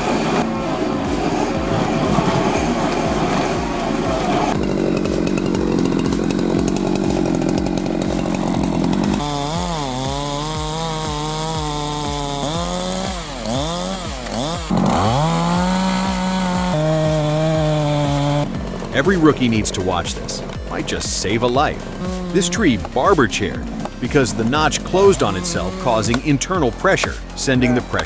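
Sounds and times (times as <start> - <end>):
chainsaw cutting: 0.0 - 28.0.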